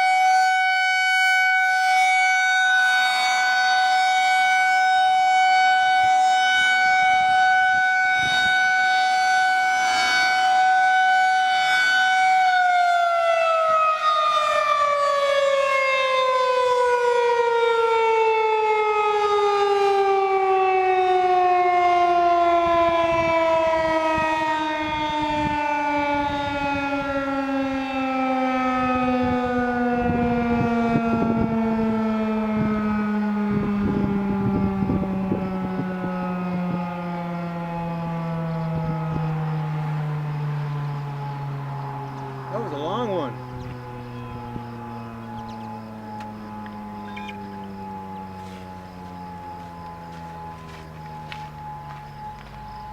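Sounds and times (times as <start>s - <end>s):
rotating warning siren: 0.0s - 52.9s.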